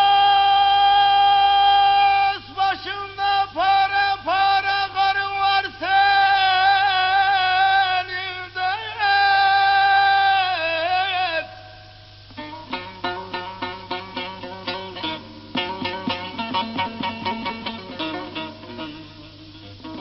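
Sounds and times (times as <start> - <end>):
man singing: 0.0 - 20.0.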